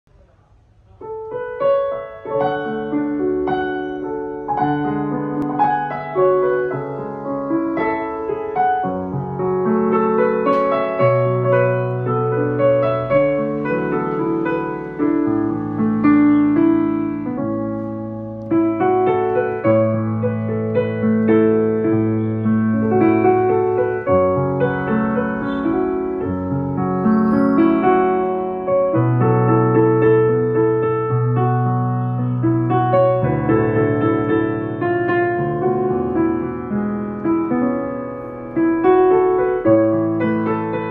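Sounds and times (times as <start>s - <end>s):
piano piece: 0.0s - 40.9s.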